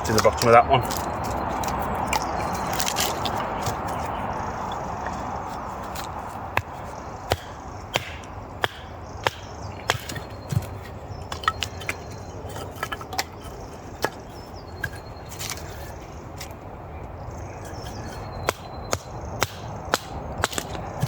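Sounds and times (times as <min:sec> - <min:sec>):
firewood being chopped: 0:00.0 - 0:15.7, 0:17.7 - 0:21.0.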